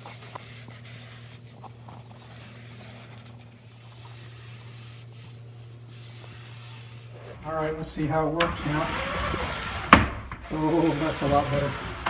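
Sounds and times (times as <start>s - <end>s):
cloth rubbing on metal track: 0.0s - 12.0s.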